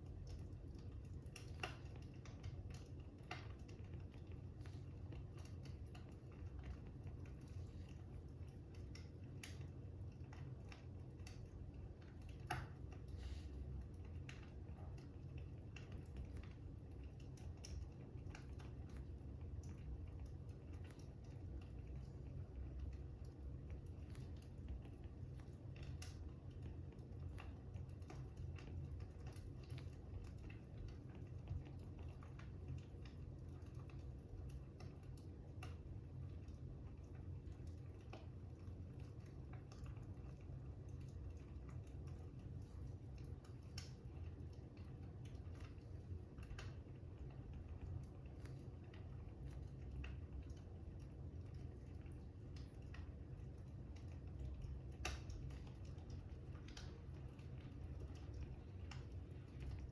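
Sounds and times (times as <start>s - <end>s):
fire crackling and popping: 0.0s - 59.9s
low steady rumble: 0.0s - 59.9s.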